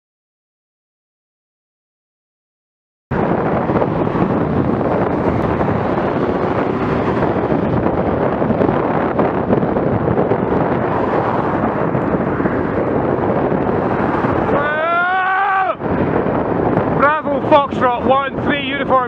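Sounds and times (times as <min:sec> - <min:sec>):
wind buffeting microphone: 0:03.1 - 0:19.0.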